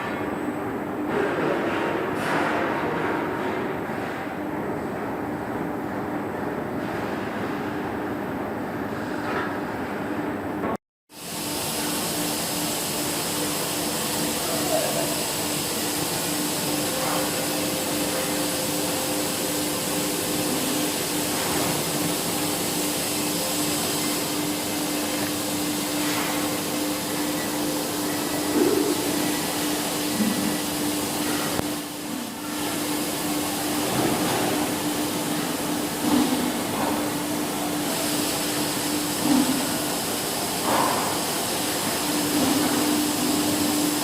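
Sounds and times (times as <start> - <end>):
machine whirring and humming: 0.0 - 44.0.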